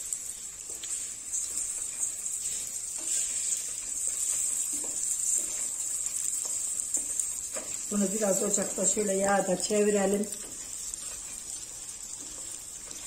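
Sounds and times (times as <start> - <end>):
oil sizzling in a pot: 0.0 - 13.0.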